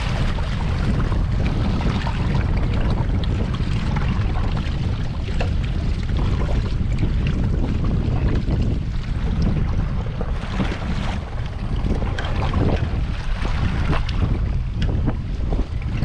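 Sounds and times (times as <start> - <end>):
waves splashing against boat: 0.0 - 16.0
wind buffeting microphone: 0.0 - 16.0.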